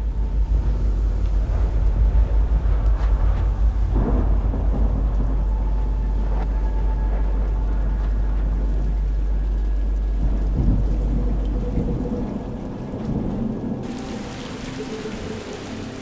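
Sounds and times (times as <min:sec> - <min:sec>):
deep thunder rumble: 0:00.0 - 0:16.0
faint steady drone tone: 0:00.0 - 0:16.0
rain-like hiss: 0:00.0 - 0:16.0.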